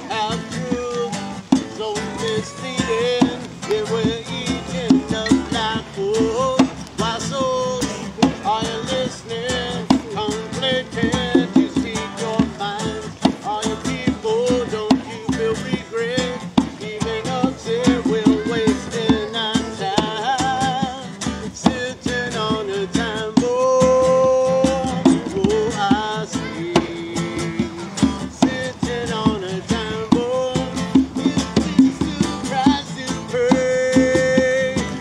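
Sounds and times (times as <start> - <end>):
acoustic guitar: 0.0 - 35.0
hand drum: 0.0 - 35.0
person singing: 0.0 - 35.0.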